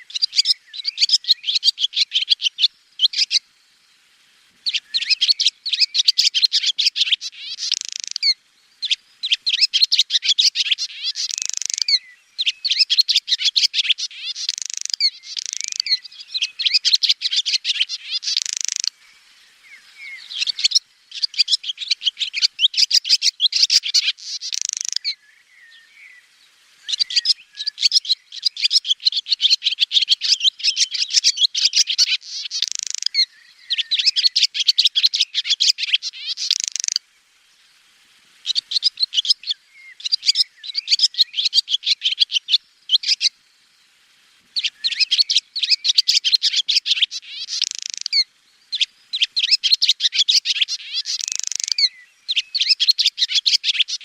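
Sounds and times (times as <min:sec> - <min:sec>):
swallow twittering: 0:00.0 - 0:03.4, 0:04.6 - 0:37.0, 0:38.4 - 0:43.8, 0:44.6 - 0:54.0.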